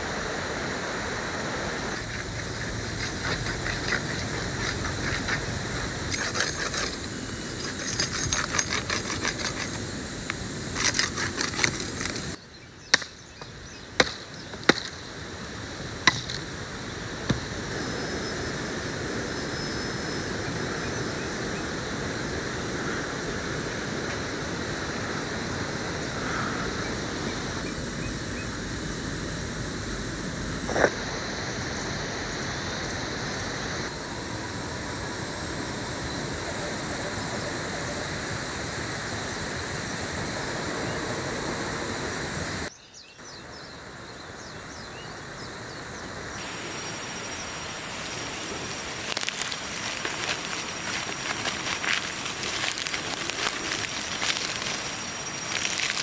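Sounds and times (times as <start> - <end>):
jungle background hiss: 0.0 - 56.0.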